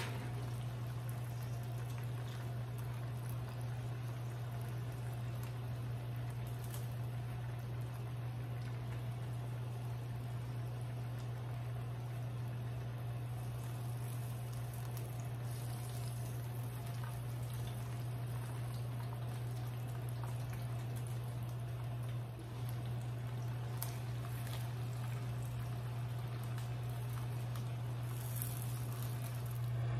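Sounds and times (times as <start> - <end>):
fat sizzling and crackling: 0.0 - 29.9
steady low hum: 0.0 - 29.9.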